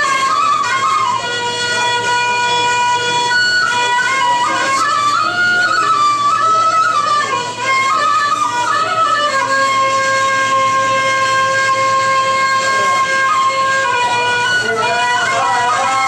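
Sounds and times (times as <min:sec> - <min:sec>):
flute-like instrumental melody: 0:00.0 - 0:16.0.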